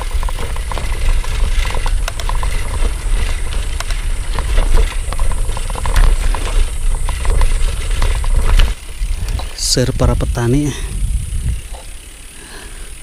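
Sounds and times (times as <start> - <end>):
wind buffeting microphone: 0.0 - 12.3
bicycle clicks and rattles: 0.0 - 13.0.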